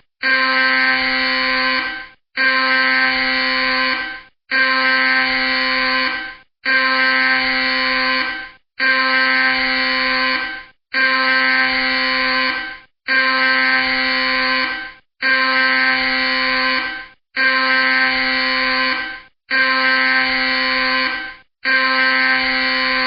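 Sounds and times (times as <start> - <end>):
electronic alarm blasts: 0.2 - 23.0.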